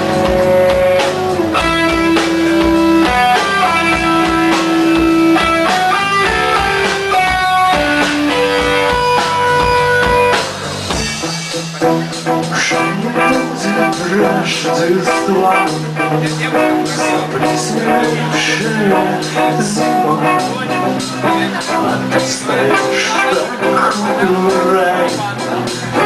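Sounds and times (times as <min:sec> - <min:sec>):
bass: 0:00.0 - 0:26.0
drums: 0:00.0 - 0:26.0
guitar melody: 0:00.0 - 0:26.0.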